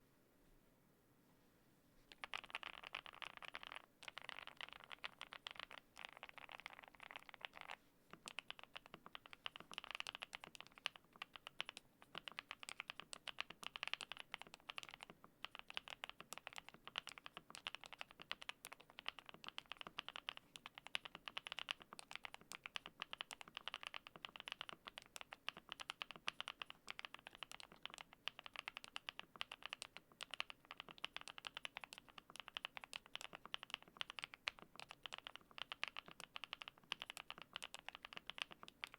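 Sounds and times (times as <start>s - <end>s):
fast mechanical keyboard typing: 2.1s - 38.9s.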